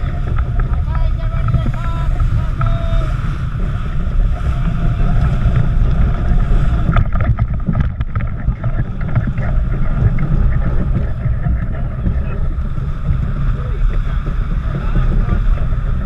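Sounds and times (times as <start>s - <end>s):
hull and waves rushing: 0.0s - 16.0s
wind buffeting microphone: 0.0s - 16.0s.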